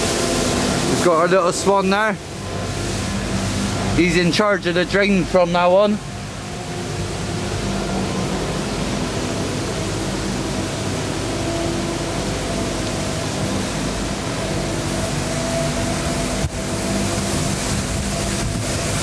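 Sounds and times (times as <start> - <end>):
low wavering motor hum: 0.0 - 19.0
steady rushing noise: 0.0 - 19.0.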